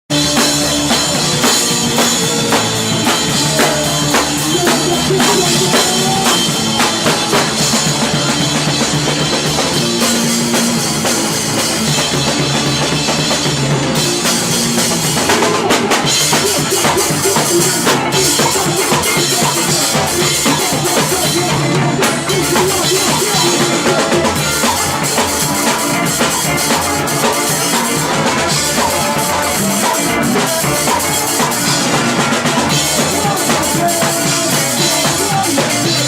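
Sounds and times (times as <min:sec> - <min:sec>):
ska-punk band playing live: 0:00.1 - 0:36.0.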